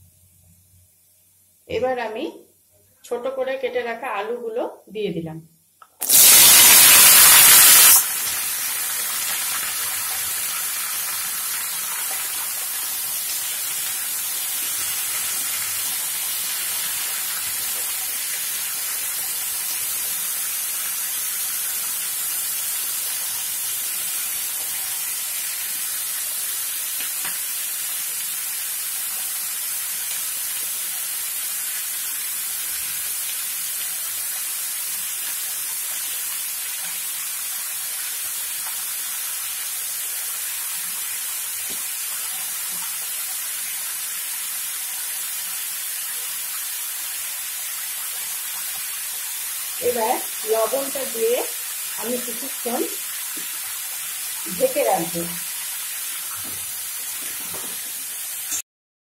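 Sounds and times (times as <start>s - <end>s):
potatoes frying in hot oil: 6.0s - 58.6s.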